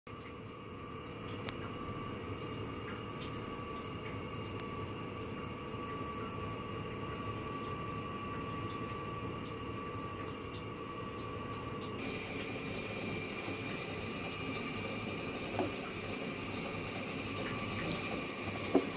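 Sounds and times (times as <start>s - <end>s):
mechanical hum with high whine: 0.1s - 18.9s.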